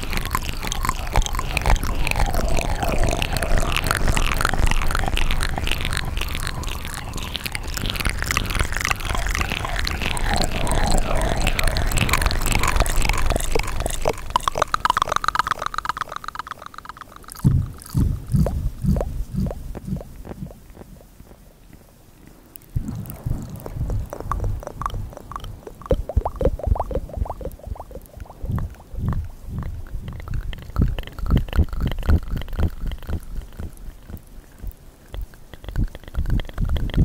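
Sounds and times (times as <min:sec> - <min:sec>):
soft mouth pops: 0:00.0 - 0:37.0
tongue clicks: 0:00.0 - 0:37.0
wet lip smacks: 0:00.0 - 0:37.0.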